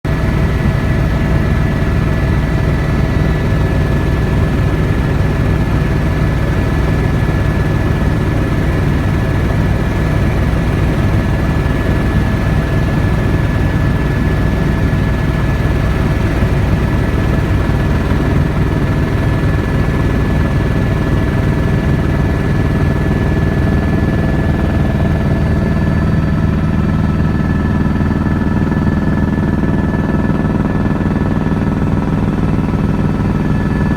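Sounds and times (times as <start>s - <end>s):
helicopter engine and rotor drone: 0.0s - 33.9s.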